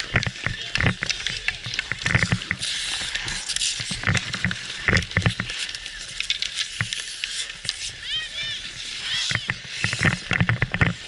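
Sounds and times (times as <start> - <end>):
hockey sticks and puck clicking: 0.0 - 11.0
skates scraping on ice: 0.0 - 11.0.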